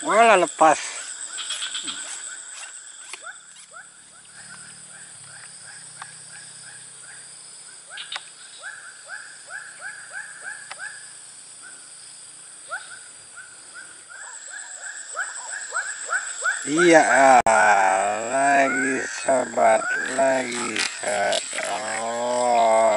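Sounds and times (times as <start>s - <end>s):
high-pitched insect whine: 0.0s - 22.9s.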